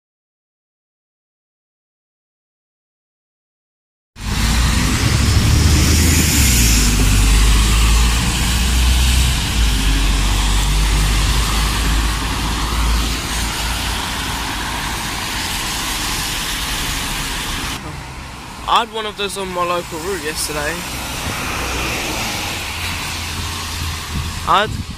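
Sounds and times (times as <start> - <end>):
bus diesel engine rumbling: 4.2 - 24.9
tyres hissing on wet road: 4.2 - 24.9.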